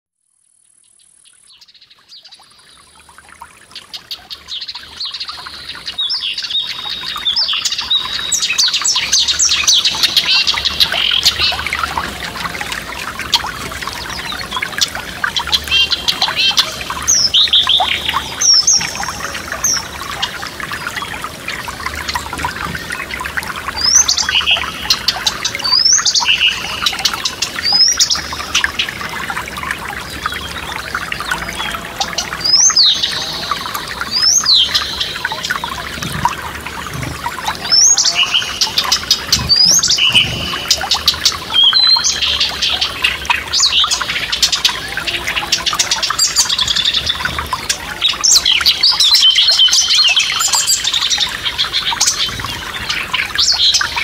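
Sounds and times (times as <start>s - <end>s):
songbirds singing: 0.6s - 54.0s
stream babbling: 1.6s - 54.0s.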